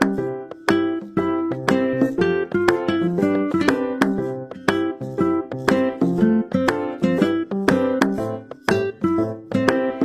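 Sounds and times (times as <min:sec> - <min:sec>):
plucked string tune: 0:00.0 - 0:10.0.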